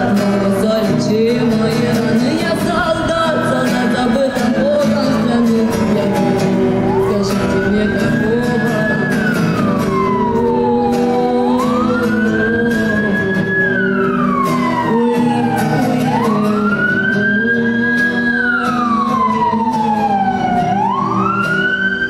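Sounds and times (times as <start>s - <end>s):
emergency siren wailing: 0.0s - 22.0s
music: 0.0s - 22.0s.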